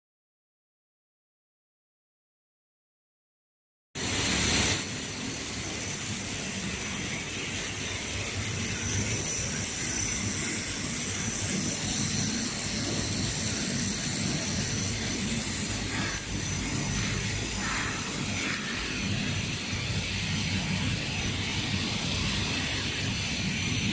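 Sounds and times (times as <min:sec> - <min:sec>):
machine hissing and humming: 0:04.0 - 0:23.9.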